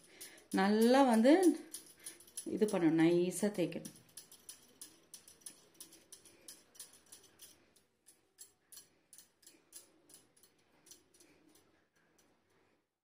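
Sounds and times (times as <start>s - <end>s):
bangles clinking: 0.0s - 12.5s.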